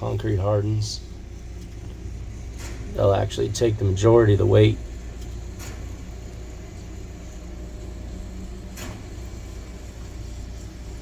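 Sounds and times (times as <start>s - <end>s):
distant machinery engine rumble: 0.0s - 11.0s.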